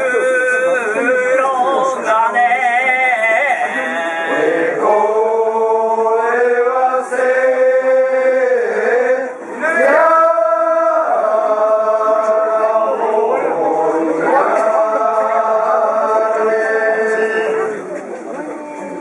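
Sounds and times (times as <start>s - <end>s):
man chanting a slow song: 0.0s - 17.9s.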